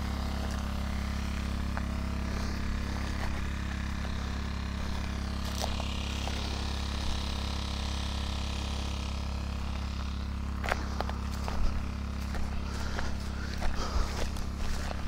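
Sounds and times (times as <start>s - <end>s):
footsteps on stony ground: 0.0s - 15.0s
petrol water pump running: 0.0s - 15.0s.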